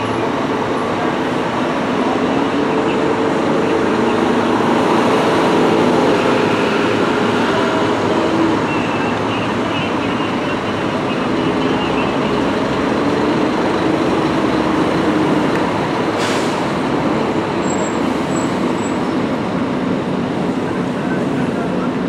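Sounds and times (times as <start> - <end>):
diesel coach engines: 0.0 - 22.0.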